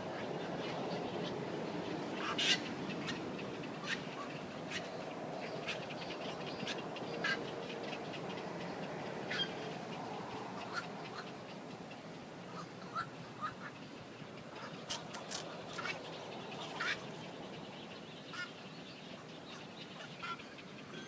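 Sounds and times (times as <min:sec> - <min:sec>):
flock of birds calling: 0:00.0 - 0:21.0
low background noise: 0:00.0 - 0:21.0.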